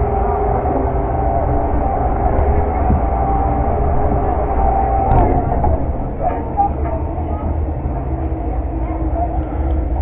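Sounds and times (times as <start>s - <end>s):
constant hum: 0.0s - 10.0s
fairground ride low rumble: 0.0s - 10.0s.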